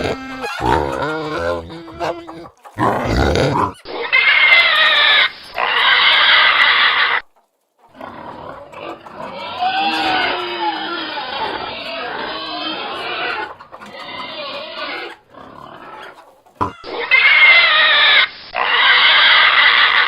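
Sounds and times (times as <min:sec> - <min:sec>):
pigs grunting: 0:00.0 - 0:07.0, 0:07.9 - 0:17.7
pigs squealing: 0:00.0 - 0:07.2, 0:07.9 - 0:20.0.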